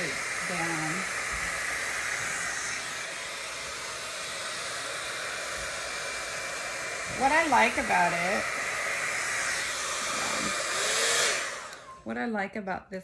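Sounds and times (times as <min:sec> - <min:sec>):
hot-air dryer brush blowing air: 0:00.0 - 0:12.5.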